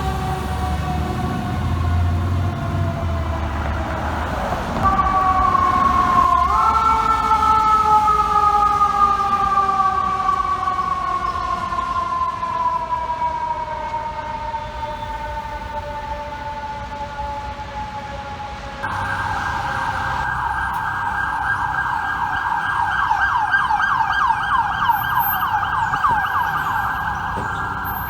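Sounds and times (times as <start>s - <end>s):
fire truck siren wailing: 0.0s - 28.0s
low traffic rumble: 0.0s - 28.0s.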